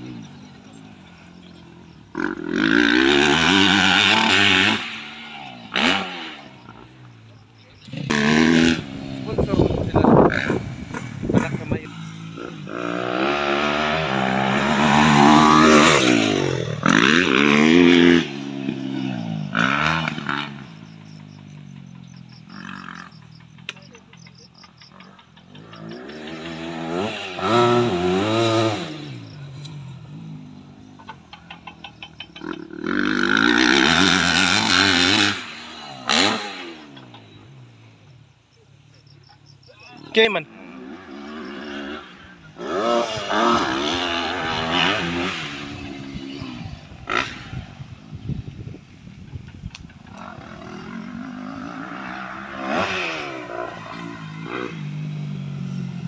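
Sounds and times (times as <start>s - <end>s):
dirt bike engine revving: 0.0s - 56.0s
second motorbike engine: 0.0s - 56.0s.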